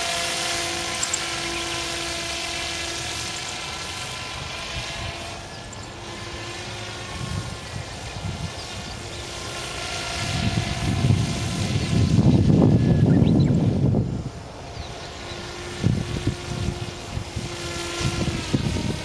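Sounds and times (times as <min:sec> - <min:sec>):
model aircraft motor and propeller: 0:00.0 - 0:19.0
wind rumble on microphone: 0:00.0 - 0:19.0.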